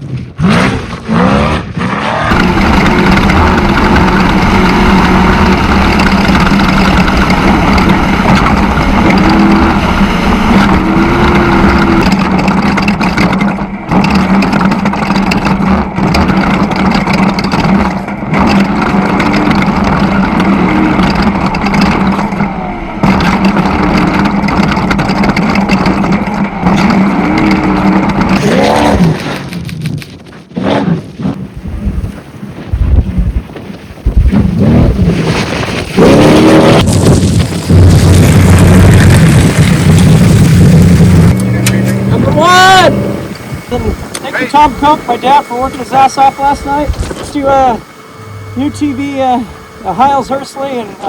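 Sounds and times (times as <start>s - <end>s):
race vehicle engine revving high: 0.4s - 29.2s, 34.3s - 51.0s.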